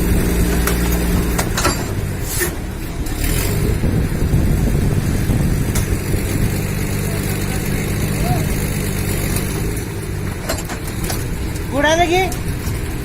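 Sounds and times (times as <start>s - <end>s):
road traffic noise: 0.0s - 13.0s
vehicle engine running: 0.0s - 13.0s.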